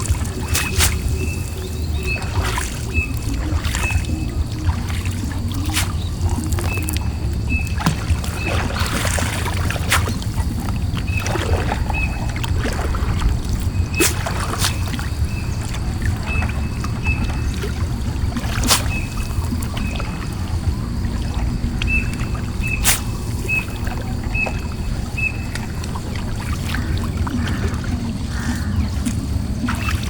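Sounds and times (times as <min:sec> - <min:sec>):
boat engine drone: 0:00.0 - 0:30.0
water sounds: 0:00.0 - 0:30.0.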